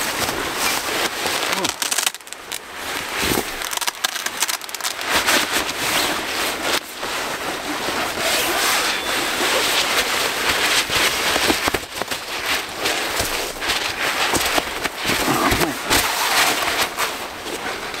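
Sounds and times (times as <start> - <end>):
nylon fabric rustling and crinkling: 0.0 - 18.0.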